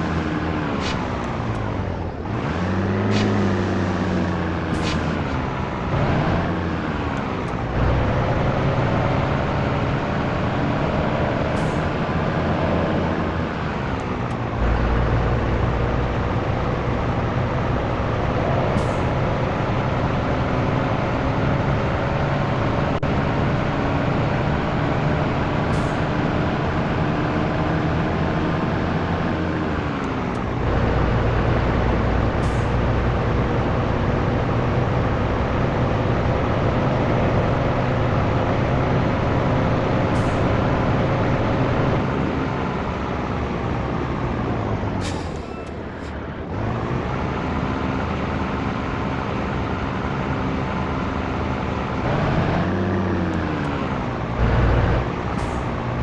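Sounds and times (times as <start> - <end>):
truck diesel engine revving: 0.0 - 56.0.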